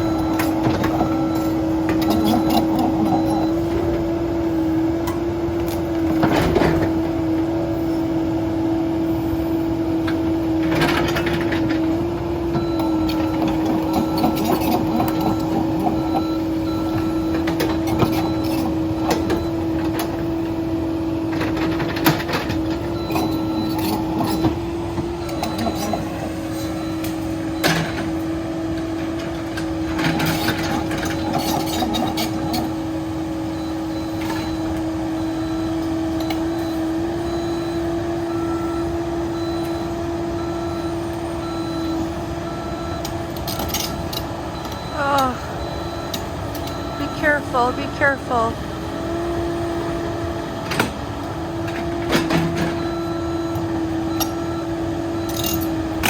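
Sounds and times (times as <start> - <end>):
excavator engine and hydraulic whine: 0.0 - 56.0.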